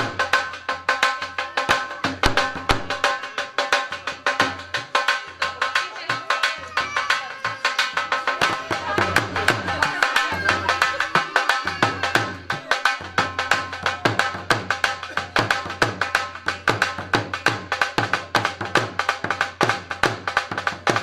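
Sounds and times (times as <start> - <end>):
fast driving drum rhythm: 0.0 - 21.0.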